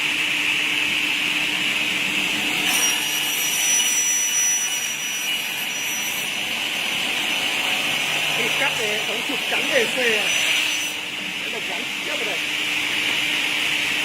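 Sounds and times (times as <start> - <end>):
cutting saw whining: 1.0 - 14.0.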